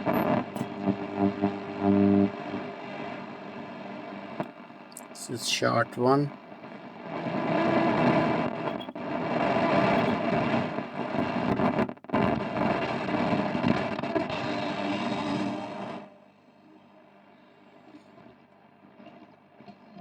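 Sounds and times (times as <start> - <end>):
radio shortwave static: 0.0 - 16.1.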